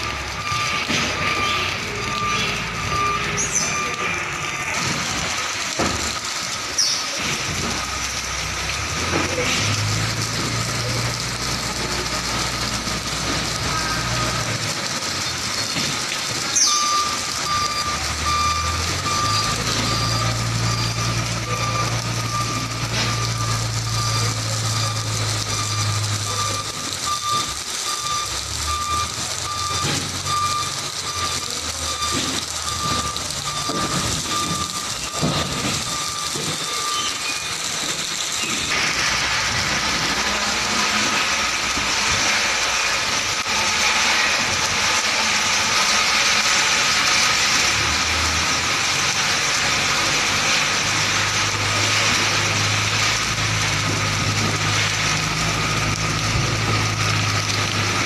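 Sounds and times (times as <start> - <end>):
diesel engine running: 0.0 - 58.0
rain hissing on wet ground: 0.0 - 58.0
truck reversing alarm beeping: 0.0 - 58.0.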